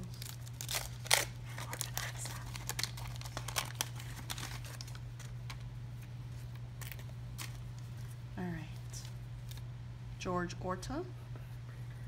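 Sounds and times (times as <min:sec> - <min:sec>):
paper wrapper crinkling: 0:00.0 - 0:09.7.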